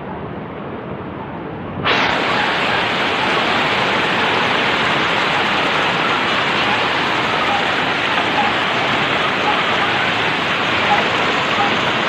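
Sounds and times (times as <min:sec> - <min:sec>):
heavy rain: 0:01.8 - 0:12.0
rushing floodwater: 0:01.9 - 0:12.0.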